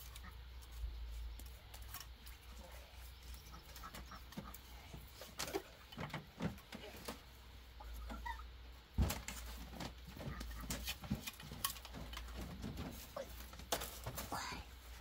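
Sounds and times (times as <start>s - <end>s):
bamboo strips clicking and scraping: 0.0s - 7.3s, 9.2s - 14.4s.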